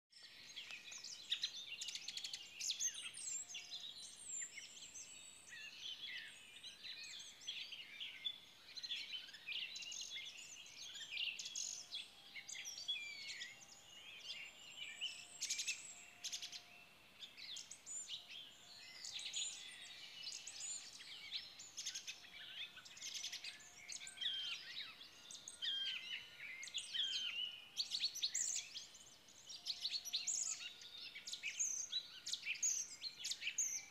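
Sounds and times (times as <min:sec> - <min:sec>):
songbirds chorus: 0:00.1 - 0:33.9.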